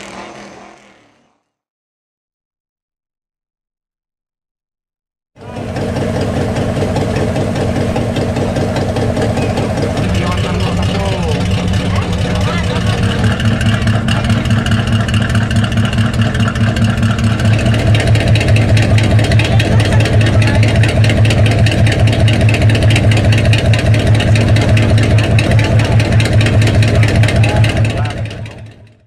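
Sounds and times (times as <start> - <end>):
car engine running loud: 0.0 - 1.4, 5.4 - 29.0.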